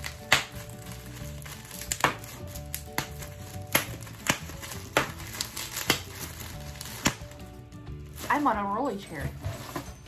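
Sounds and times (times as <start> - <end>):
background music: 0.0 - 10.0
bubble wrap popping: 0.0 - 10.0
plastic crinkling: 0.0 - 10.0.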